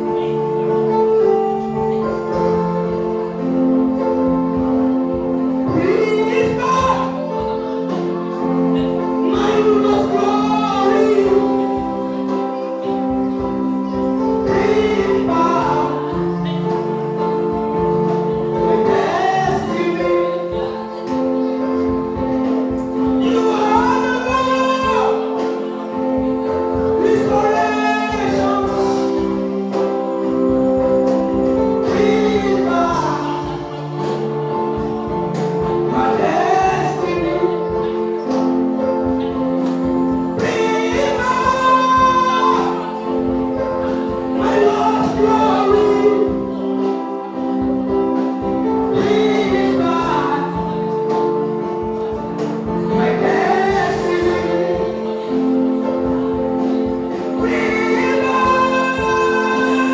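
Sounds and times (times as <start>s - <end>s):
gospel choir singing: 0.0s - 59.9s
held chords: 0.0s - 59.9s.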